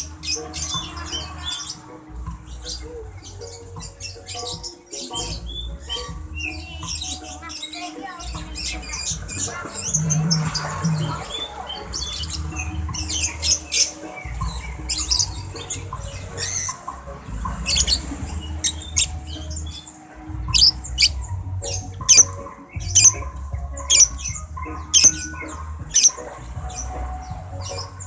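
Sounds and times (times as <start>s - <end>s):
birds chirping and squawking: 0.0s - 28.0s.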